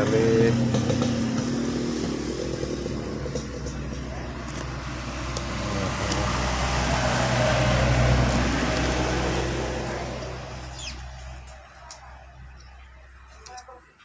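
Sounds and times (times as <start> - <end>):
vehicle passing by: 0.0 - 12.4.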